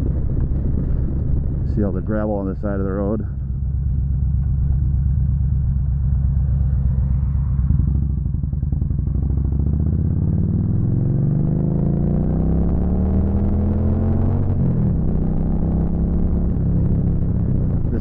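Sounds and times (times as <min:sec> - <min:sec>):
motorcycle engine accelerating: 0:02.6 - 0:18.0.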